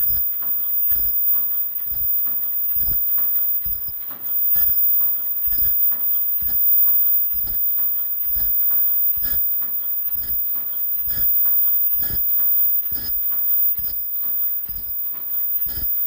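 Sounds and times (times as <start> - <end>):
machine thudding: 0.0 - 16.0
mechanical clicks: 0.0 - 16.0.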